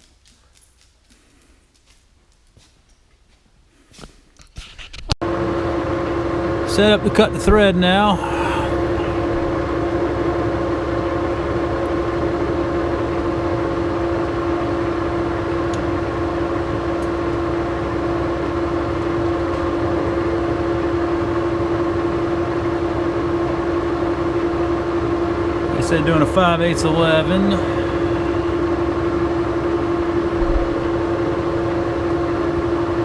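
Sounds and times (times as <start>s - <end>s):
lathe running with mechanical hum: 5.2s - 33.0s.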